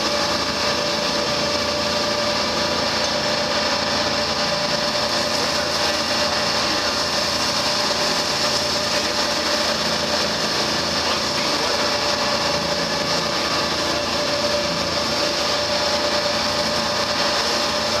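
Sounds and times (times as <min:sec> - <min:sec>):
diesel engines whining: 0:00.0 - 0:18.0.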